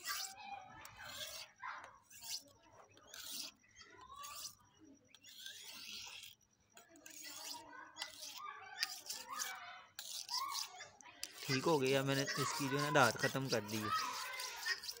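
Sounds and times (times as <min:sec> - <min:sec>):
knife scraping on sharpening stone: 0:00.0 - 0:15.0.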